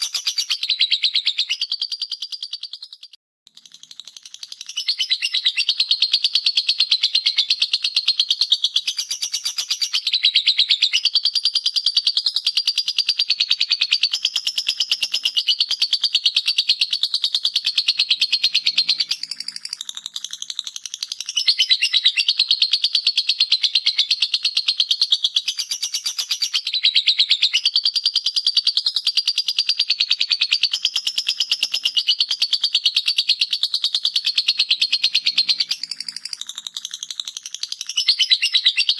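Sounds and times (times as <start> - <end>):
bird chattering trill: 0.0 - 38.9.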